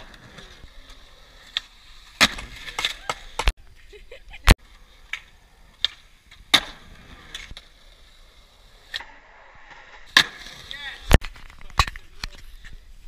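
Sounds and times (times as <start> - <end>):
skateboards clacking on concrete: 0.0 - 3.6, 4.6 - 9.0, 9.8 - 12.9
skateboard wheels rolling on concrete: 0.0 - 13.0.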